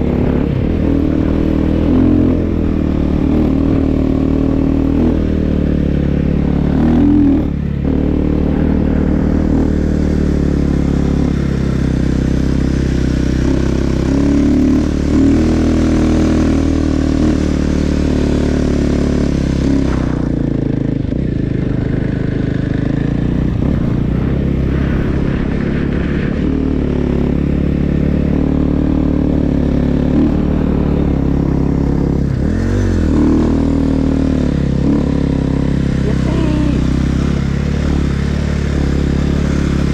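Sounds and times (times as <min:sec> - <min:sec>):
snow bike engine running: 0:00.0 - 0:39.9.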